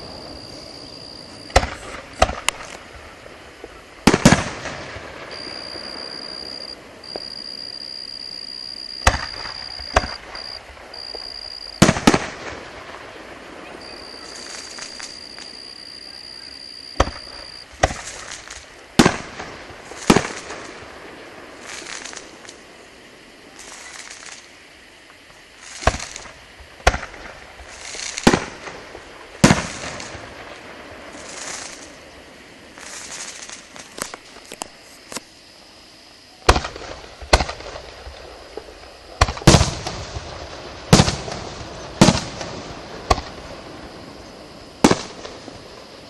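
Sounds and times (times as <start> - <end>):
fireworks bangs: 0.0 - 22.6, 25.6 - 34.3, 36.4 - 46.0
fireworks hissing: 0.0 - 35.3, 36.4 - 46.0.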